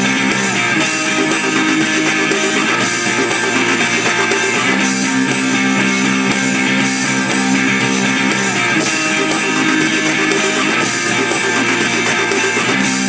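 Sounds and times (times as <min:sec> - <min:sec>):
guitar rock band playing: 0:00.0 - 0:13.0.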